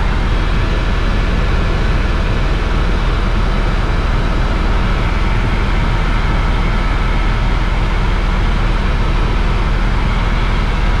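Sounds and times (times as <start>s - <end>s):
helicopter rotor and engine drone: 0.0s - 11.0s.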